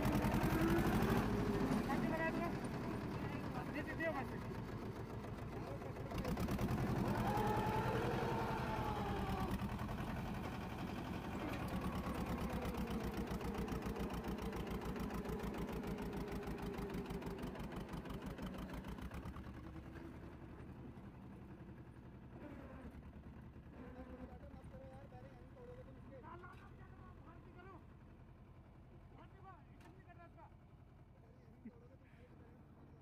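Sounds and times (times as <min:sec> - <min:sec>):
tractor diesel engine under load: 0:00.0 - 0:31.4.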